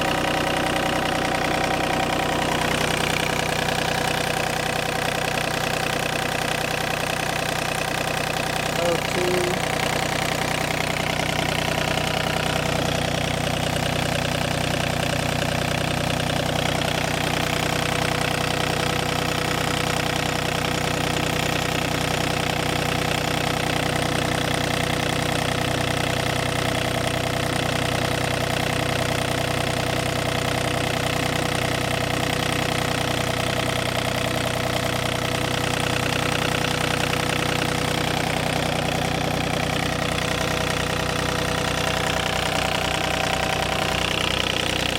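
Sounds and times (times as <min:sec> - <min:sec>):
diesel mower engine running: 0:00.0 - 0:44.9.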